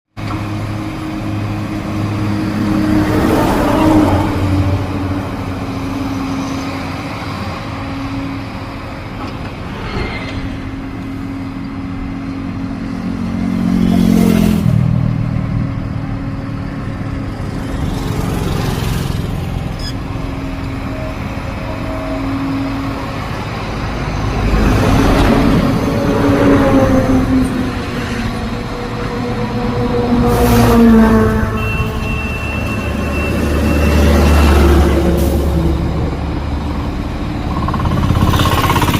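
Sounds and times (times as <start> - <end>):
heavy diesel engine under load: 0.1 - 38.9.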